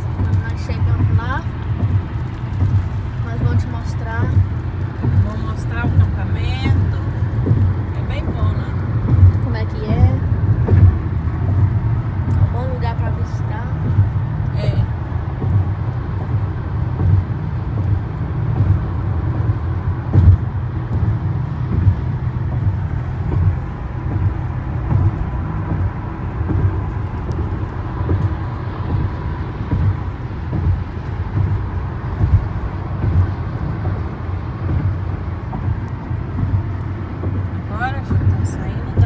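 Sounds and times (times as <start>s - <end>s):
car cabin road rumble: 0.0s - 39.0s.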